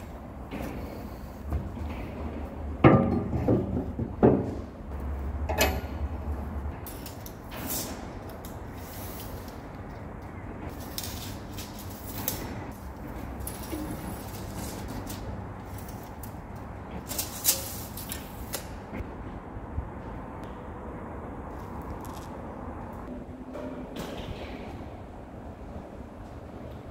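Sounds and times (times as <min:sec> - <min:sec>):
workshop hum: 0:00.0 - 0:26.9.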